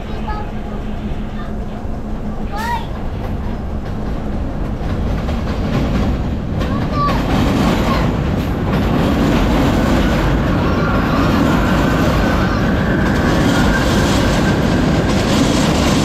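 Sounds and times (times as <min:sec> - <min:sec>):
passing subway train: 0:00.0 - 0:16.0
subway train rumbling on track: 0:00.0 - 0:16.0
wheels clattering over rail joints: 0:02.5 - 0:16.0.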